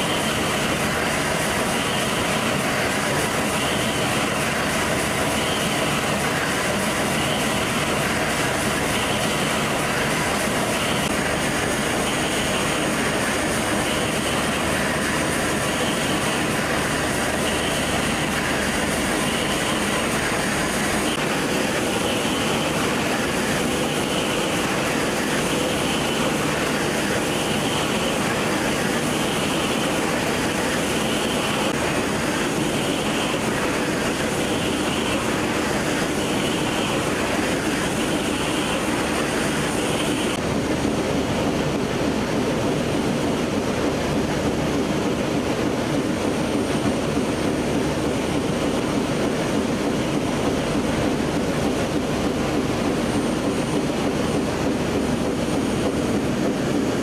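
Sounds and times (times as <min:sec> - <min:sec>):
production line mechanical drone: 0:00.0 - 0:57.0.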